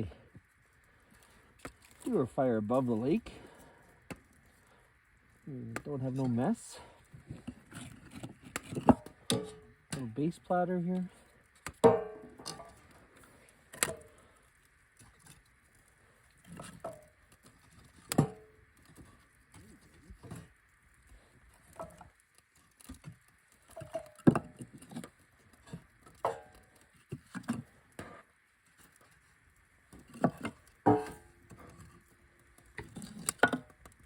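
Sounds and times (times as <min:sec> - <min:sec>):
firewood knocking and clunking: 0:02.7 - 0:10.3, 0:10.9 - 0:20.5, 0:21.1 - 0:28.3, 0:29.9 - 0:34.0.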